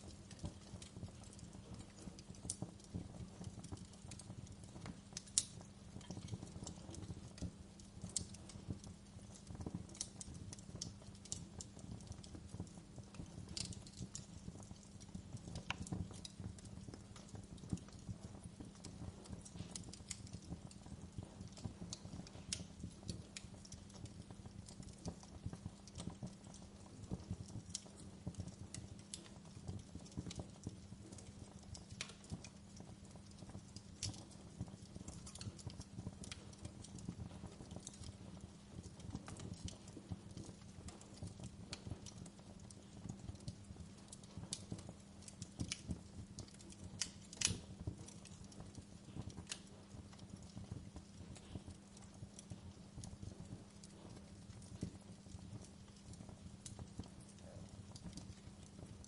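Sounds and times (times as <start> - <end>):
fire popping and snapping: 0.0 - 59.0
wood fire crackling: 0.0 - 59.0.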